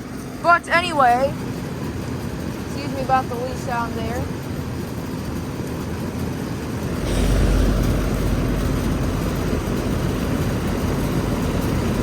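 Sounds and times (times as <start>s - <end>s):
air conditioner fan running: 0.0s - 12.0s.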